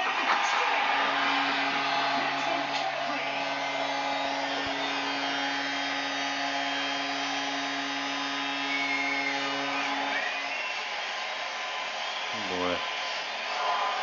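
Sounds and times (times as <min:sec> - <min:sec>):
small motor whirring: 0:00.0 - 0:12.2.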